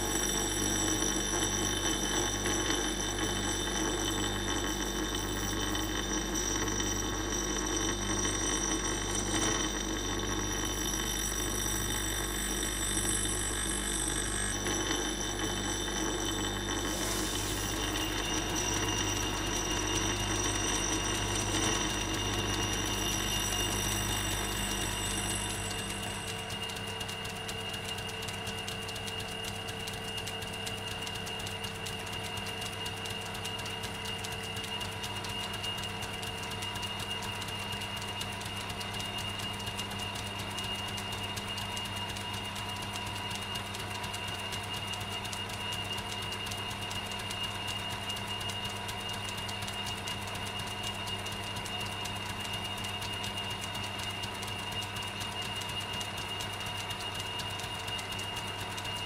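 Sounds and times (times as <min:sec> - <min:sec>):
drill press humming and whining: 0:00.0 - 0:59.0.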